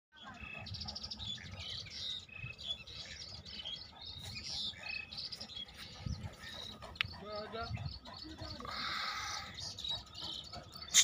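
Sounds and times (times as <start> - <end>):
birds chirping and trilling: 0.1 - 11.0.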